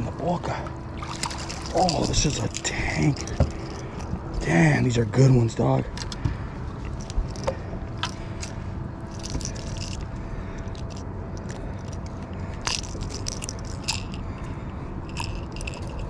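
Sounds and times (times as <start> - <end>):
faint steady hum: 0.0 - 16.0
gloved hands handling fishing lure: 1.2 - 4.6, 5.9 - 16.0.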